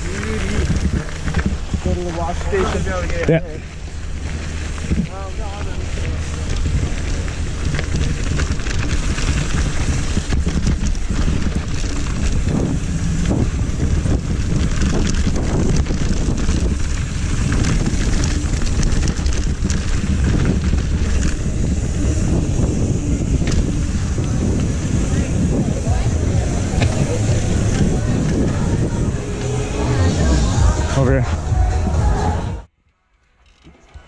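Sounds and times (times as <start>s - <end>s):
bike clicks and rattles: 0.0s - 29.8s, 32.8s - 34.0s
tyres rumbling on dirt and gravel: 0.0s - 32.7s
wind rushing over microphone: 0.0s - 32.7s.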